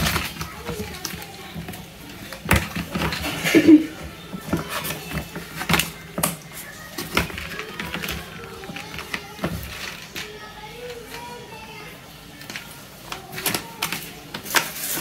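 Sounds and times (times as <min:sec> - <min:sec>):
plastic toy parts clicking: 0:00.0 - 0:11.5, 0:12.3 - 0:15.0.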